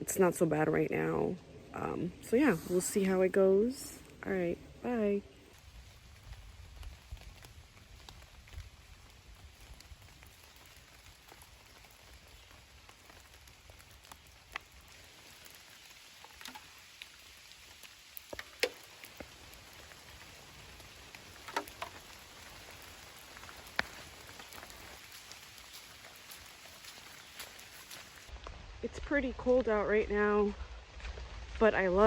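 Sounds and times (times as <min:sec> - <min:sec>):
light rain hissing: 0:00.0 - 0:32.0
raindrops ticking on surfaces: 0:02.8 - 0:32.0.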